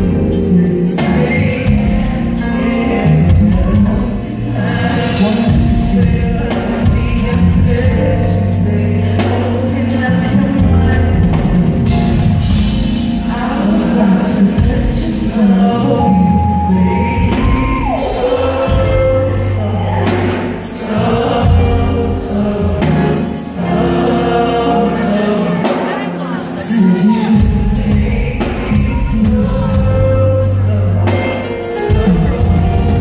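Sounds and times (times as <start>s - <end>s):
bass and drums: 0.0s - 26.0s, 27.2s - 33.0s.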